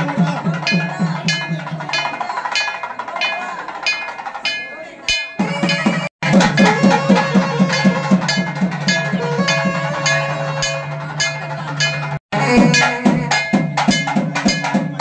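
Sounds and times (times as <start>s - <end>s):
bells ringing: 0.0s - 15.0s
drum beaten fast: 0.0s - 15.0s.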